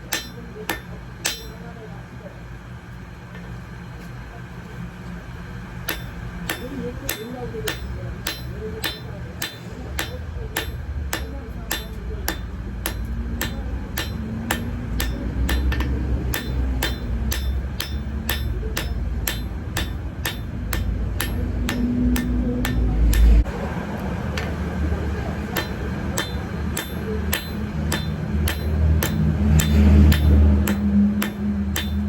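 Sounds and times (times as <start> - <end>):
hammer striking metal on anvil: 0.0 - 1.7, 5.8 - 23.5, 25.5 - 32.0.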